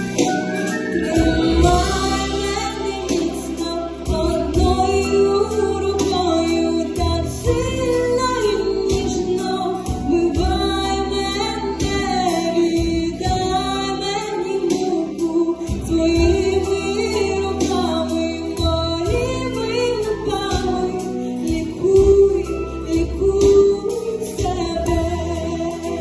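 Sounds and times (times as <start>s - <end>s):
instrumental accompaniment: 0.0s - 26.0s
woman singing: 0.0s - 26.0s.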